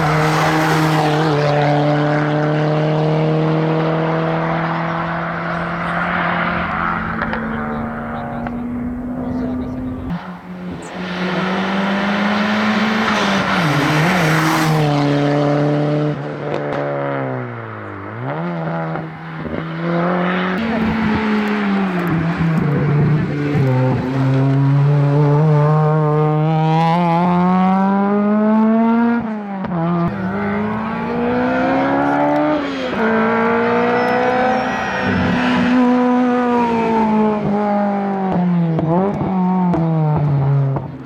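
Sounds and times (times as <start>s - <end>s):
race car engine at full throttle: 0.0s - 41.0s.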